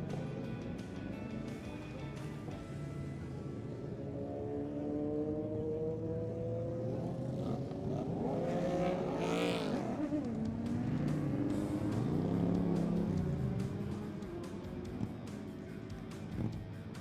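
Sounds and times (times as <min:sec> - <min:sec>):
motorcycle engine revving: 0:02.9 - 0:17.0.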